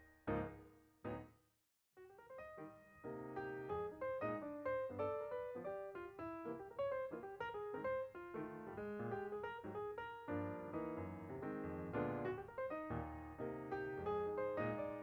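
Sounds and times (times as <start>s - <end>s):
piano music: 0.0s - 1.2s, 2.2s - 15.0s.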